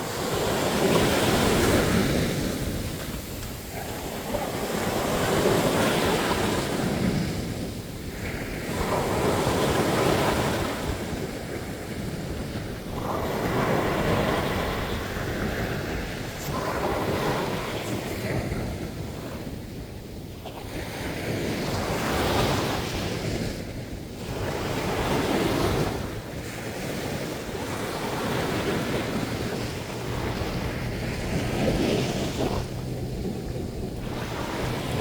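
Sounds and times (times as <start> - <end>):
sea surf breaking on beach: 0.0 - 35.0
wind rumble on microphone: 0.0 - 35.0.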